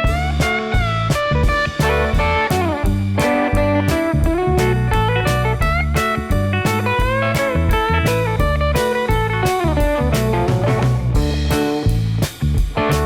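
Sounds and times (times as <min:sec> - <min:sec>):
bluesy guitar music with beat: 0:00.0 - 0:13.0.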